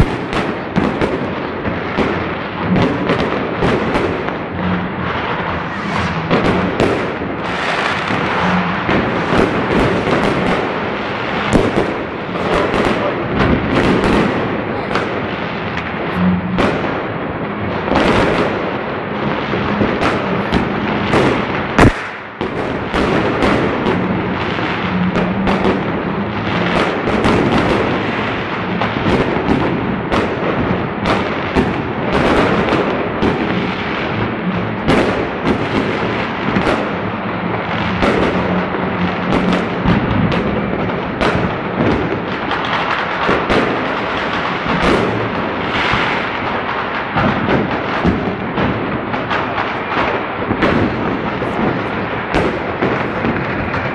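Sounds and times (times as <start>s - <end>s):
fireworks bursting and crackling: 0.0s - 53.9s
loud firework bang: 0.0s - 53.9s.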